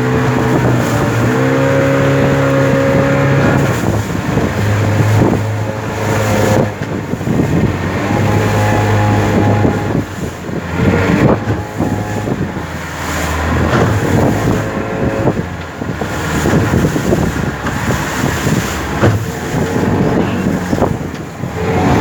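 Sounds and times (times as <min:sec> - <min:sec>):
motorboat engine running: 0:00.0 - 0:22.0
wind buffeting microphone: 0:00.0 - 0:22.0.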